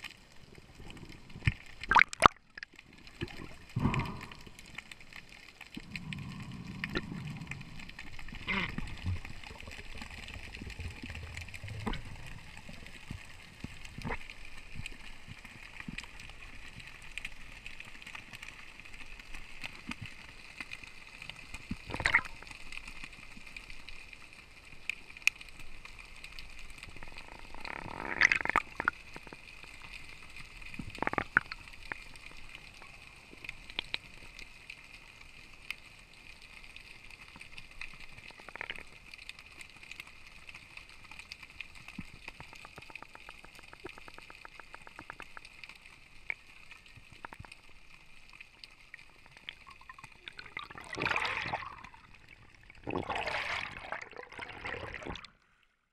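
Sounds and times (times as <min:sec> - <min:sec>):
bursts of water noise: 0:00.0 - 0:23.6, 0:25.5 - 0:34.4, 0:41.3 - 0:55.5
water gurgling and sloshing: 0:00.0 - 0:25.0, 0:25.8 - 0:34.3, 0:40.6 - 0:55.9.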